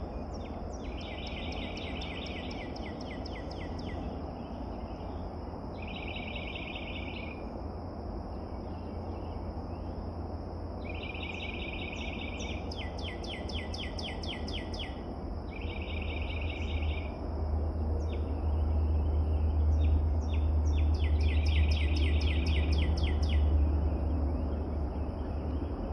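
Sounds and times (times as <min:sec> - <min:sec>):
songbird singing fast trills: 0:00.0 - 0:07.6, 0:08.2 - 0:25.9
steady high-pitched hiss: 0:00.0 - 0:25.9.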